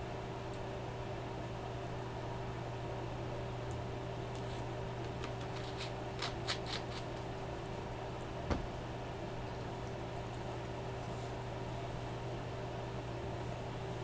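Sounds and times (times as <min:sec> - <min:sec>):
room hum and hiss: 0:00.0 - 0:14.0.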